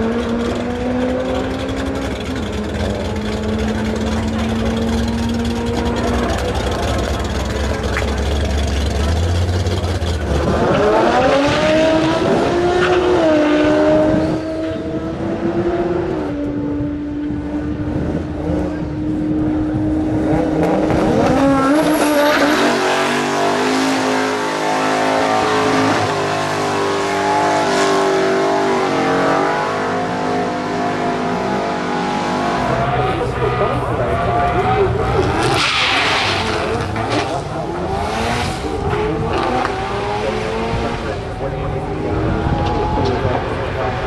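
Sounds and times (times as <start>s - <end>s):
drag racing engine accelerating: 0.0s - 44.0s
engine held at high revs: 0.0s - 44.0s.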